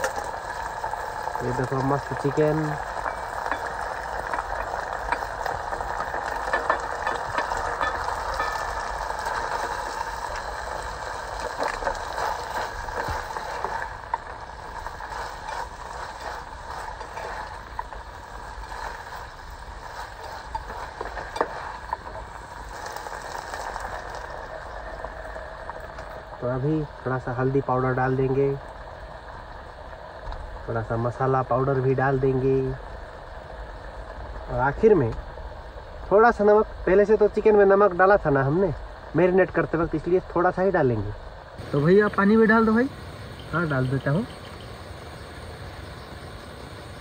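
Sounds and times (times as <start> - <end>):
chicken sizzling in hot oil: 0.0 - 47.0.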